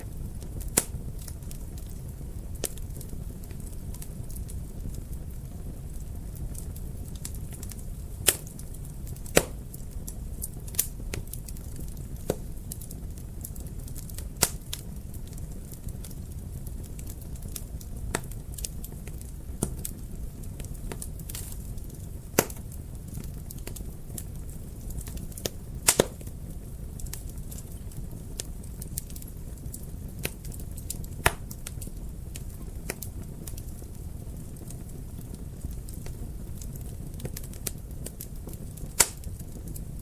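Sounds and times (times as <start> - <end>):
fire crackling in fireplace: 0.0 - 40.0.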